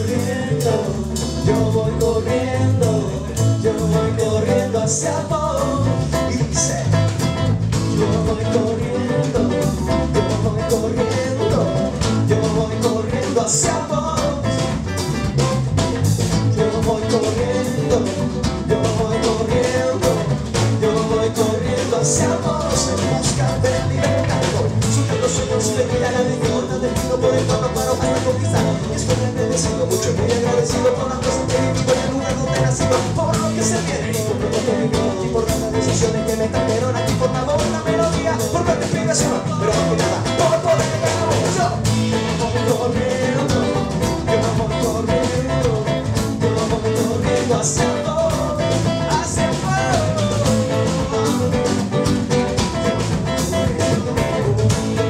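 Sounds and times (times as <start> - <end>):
drum kit: 0.0 - 55.0
electric bass: 0.0 - 55.0
man singing: 0.0 - 55.0.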